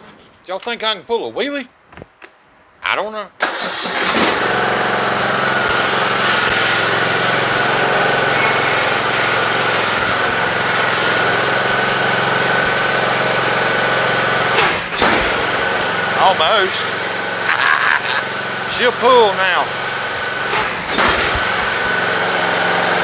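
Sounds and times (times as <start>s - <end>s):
lawn tractor engine running: 3.4s - 23.0s.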